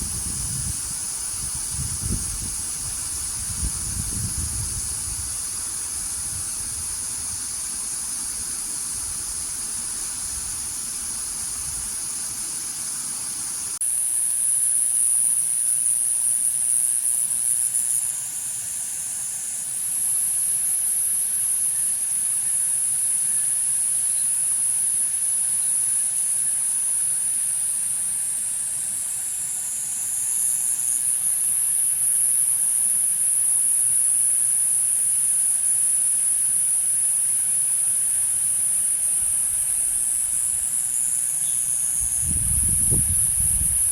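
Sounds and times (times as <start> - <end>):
cicadas singing: 0.0 - 43.9.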